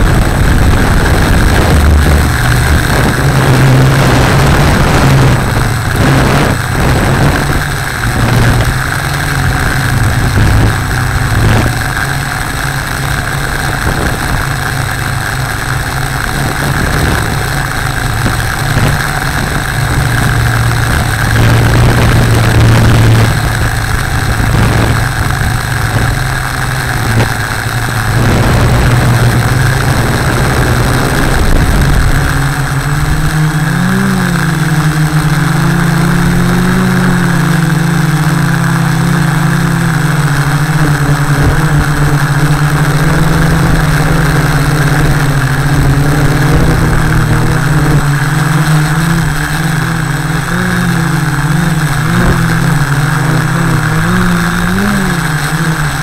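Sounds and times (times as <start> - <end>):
drone motors humming: 0.0 - 56.0.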